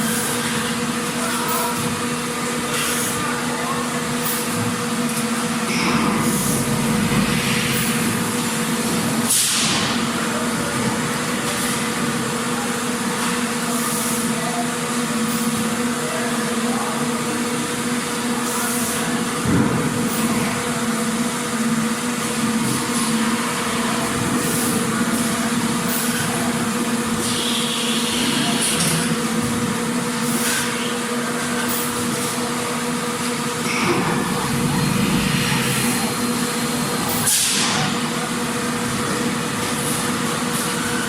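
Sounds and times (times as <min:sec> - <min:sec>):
factory machinery humming: 0:00.0 - 0:41.0.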